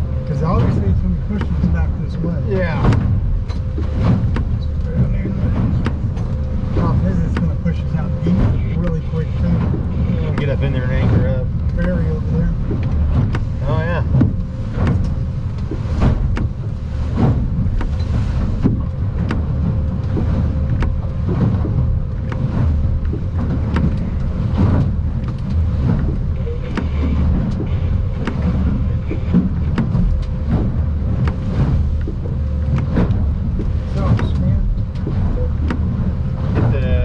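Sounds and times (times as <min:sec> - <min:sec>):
boat engine and hull rumble: 0:00.0 - 0:37.0
hull knocking on waves: 0:00.0 - 0:37.0.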